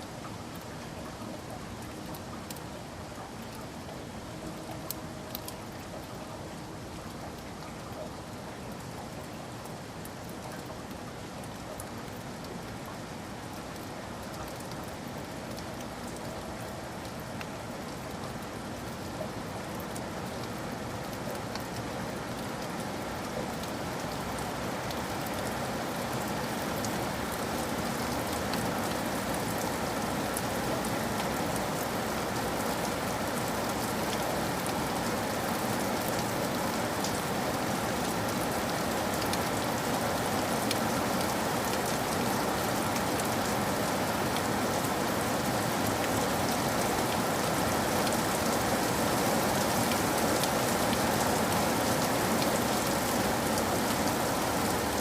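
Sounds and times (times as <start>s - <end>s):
rain drops tapping: 0.1s - 55.0s.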